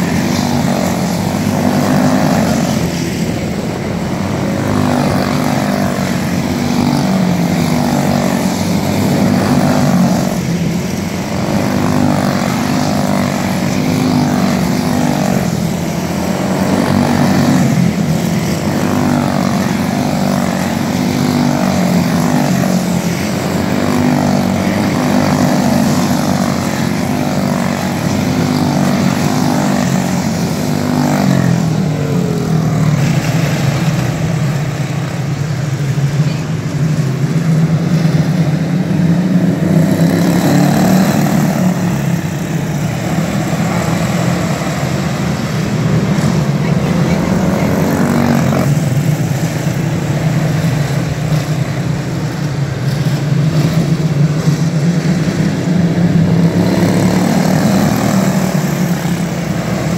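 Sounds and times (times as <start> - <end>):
race car engines rising and falling: 0.0 - 59.9.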